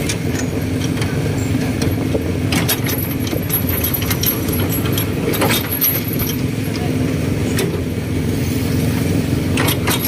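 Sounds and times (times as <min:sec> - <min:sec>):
metal cargo bed and chains rattling: 0:00.0 - 0:08.0, 0:09.5 - 0:10.0
vehicle engine running: 0:00.0 - 0:10.0.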